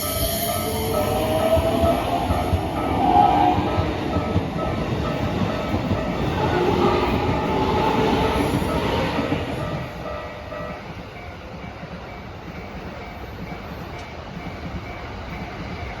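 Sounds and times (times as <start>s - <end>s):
level crossing warning bell: 0.0s - 16.0s
train passing: 0.0s - 16.0s.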